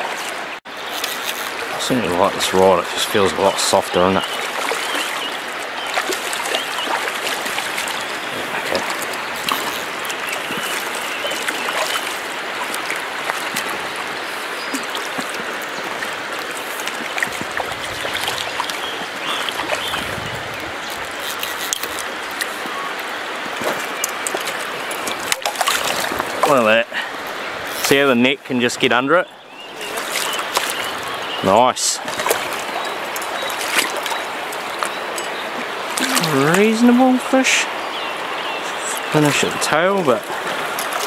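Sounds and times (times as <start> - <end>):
stream rushing over stones: 0.0 - 41.0
small splashes and ticks: 0.1 - 26.6, 27.2 - 28.1, 29.8 - 31.4, 32.0 - 36.7, 38.9 - 41.0.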